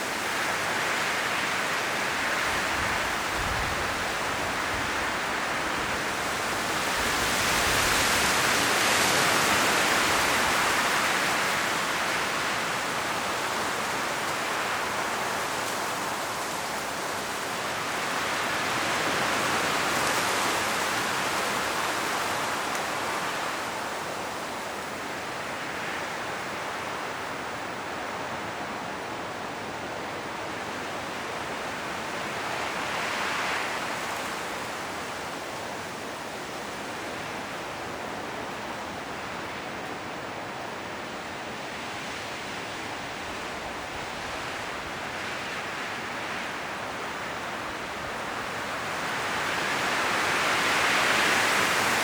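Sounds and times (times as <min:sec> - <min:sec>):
strong wind rustling leaves: 0:00.0 - 0:52.0.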